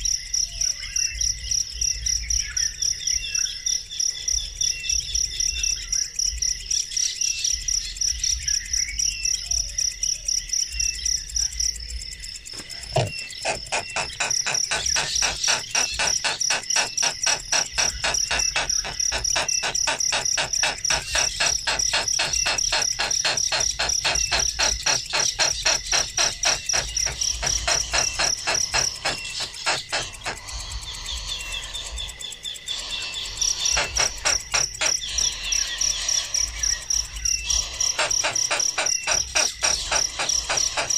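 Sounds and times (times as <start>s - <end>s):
insects chirring: 0.0s - 40.9s
rasping insect pulses: 7.6s - 40.9s.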